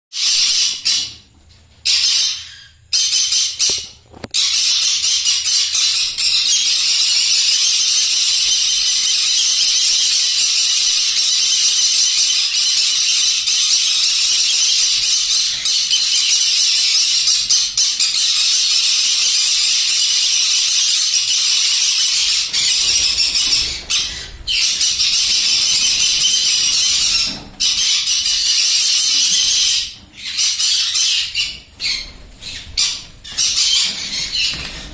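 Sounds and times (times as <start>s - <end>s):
parrots calling and screeching: 0.2s - 34.9s.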